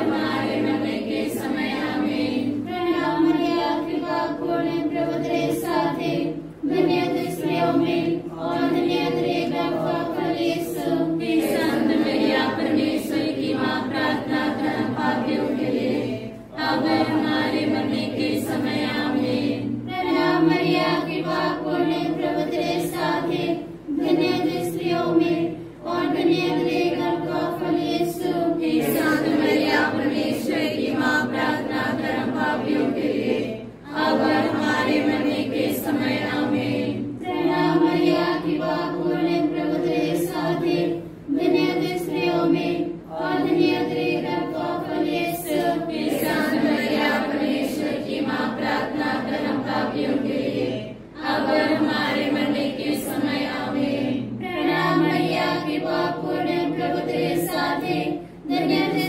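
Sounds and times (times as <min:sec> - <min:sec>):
group of voices chanting prayers: 0:00.0 - 0:59.0.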